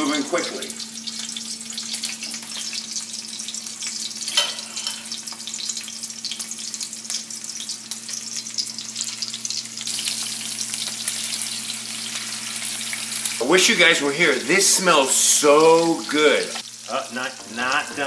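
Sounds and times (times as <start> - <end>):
food frying in hot oil: 0.0 - 18.0.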